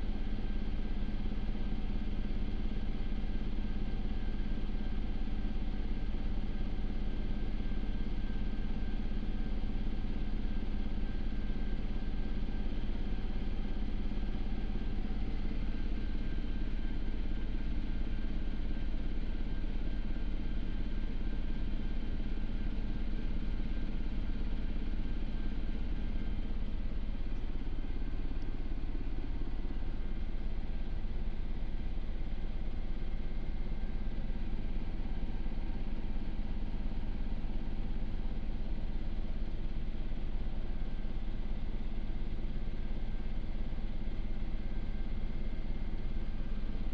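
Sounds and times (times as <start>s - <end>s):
helicopter cockpit drone: 0.0s - 46.9s.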